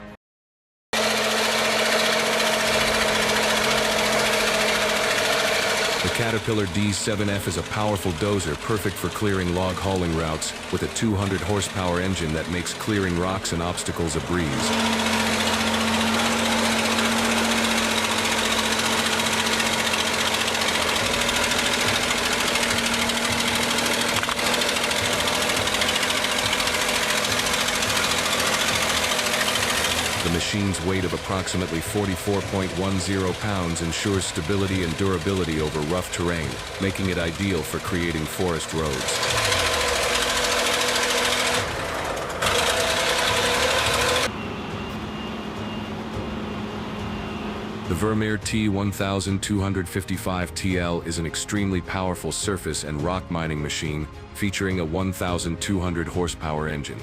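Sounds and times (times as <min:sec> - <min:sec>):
bulldozer diesel engine running: 0:01.0 - 0:56.8.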